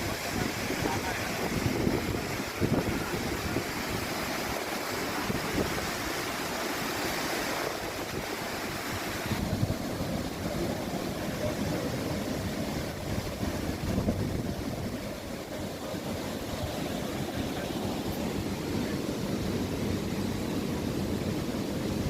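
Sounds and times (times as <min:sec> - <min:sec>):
wind buffeting microphone: 0:00.0 - 0:06.0, 0:07.6 - 0:19.9
seawater rushing: 0:00.0 - 0:22.0.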